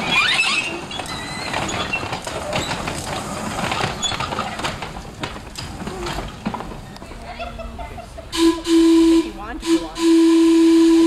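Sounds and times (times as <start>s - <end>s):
model streetcar wheels clicking on rail: 0.0s - 11.0s.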